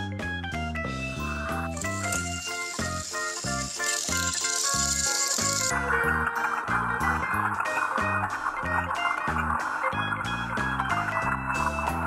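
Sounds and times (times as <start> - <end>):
bouncy background music: 0.0 - 12.0.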